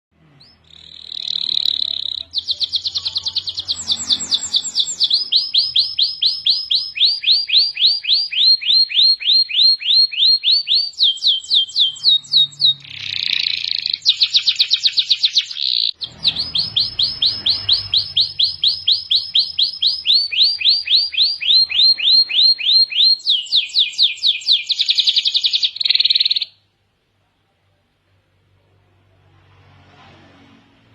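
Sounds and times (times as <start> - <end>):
canary singing trills: 0.2 - 26.6.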